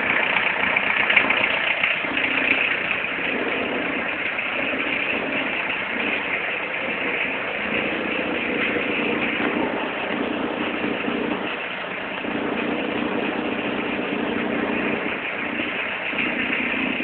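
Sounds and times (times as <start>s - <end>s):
diesel engine idling: 0.0s - 17.0s
low droning note: 2.7s - 17.0s.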